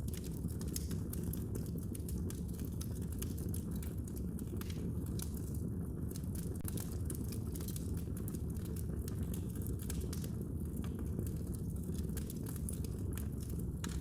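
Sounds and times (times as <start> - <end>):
fire crackling: 0.0 - 14.0
low fire rumble: 0.0 - 14.0.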